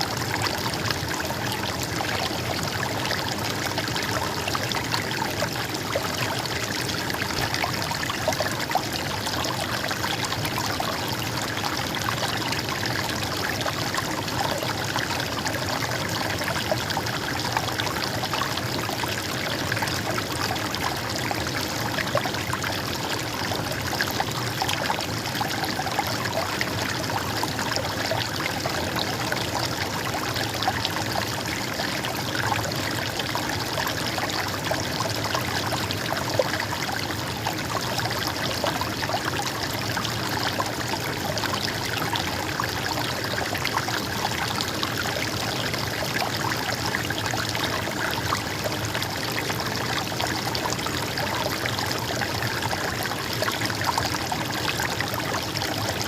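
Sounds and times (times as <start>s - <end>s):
stream running and trickling: 0.0s - 56.0s.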